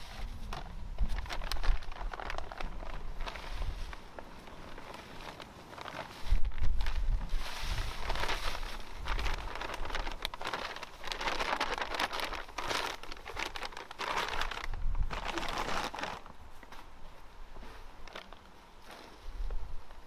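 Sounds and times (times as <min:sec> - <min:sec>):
dry rustling and crinkling: 0:00.0 - 0:20.0.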